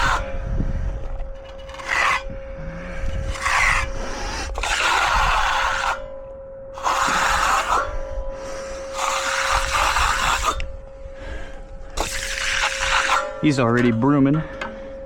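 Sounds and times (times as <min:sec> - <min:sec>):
tool scraping across concrete: 0:00.0 - 0:06.2, 0:06.8 - 0:10.7, 0:11.6 - 0:14.8.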